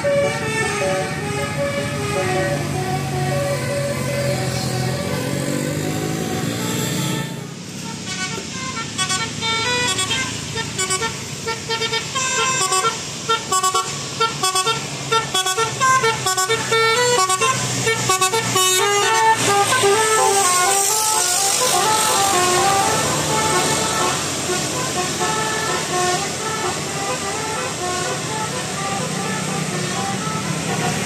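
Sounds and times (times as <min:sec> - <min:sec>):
multi-tone bus horn melody: 0:00.0 - 0:31.0.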